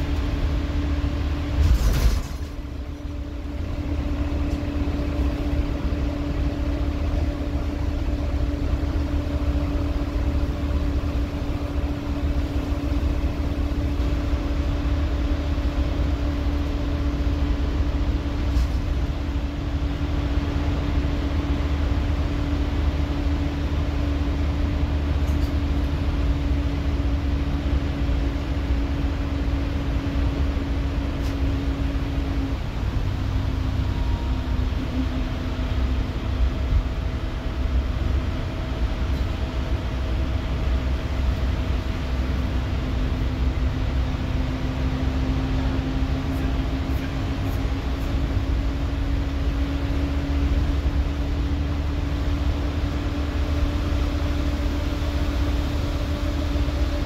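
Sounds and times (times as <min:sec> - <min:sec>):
bus engine droning with whine: 0:00.0 - 0:57.0.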